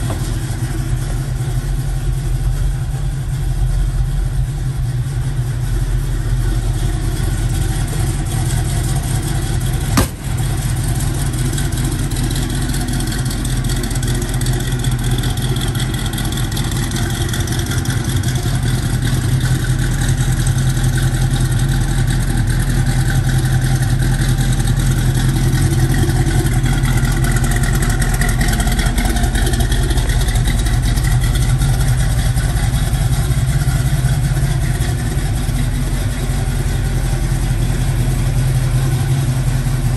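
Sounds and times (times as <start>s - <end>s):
engine idling with low rumble: 0.0s - 39.9s.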